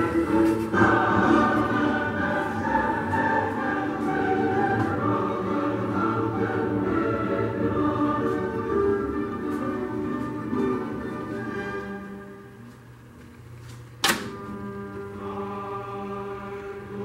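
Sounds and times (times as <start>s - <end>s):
choir singing sustained chords: 0.0s - 12.6s, 14.5s - 17.0s.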